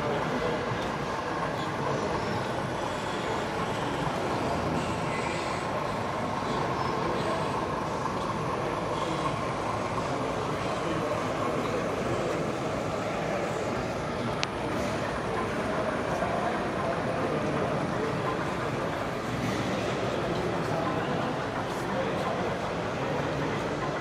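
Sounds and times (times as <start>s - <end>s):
busy exhibition hall noise: 0.0s - 24.0s
model train running: 0.0s - 24.0s.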